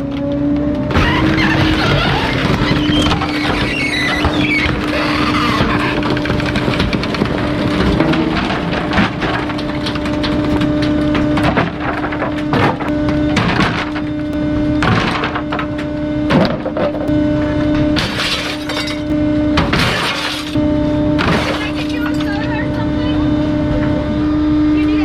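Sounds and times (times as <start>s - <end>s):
compactor hum: 0.8s - 25.0s.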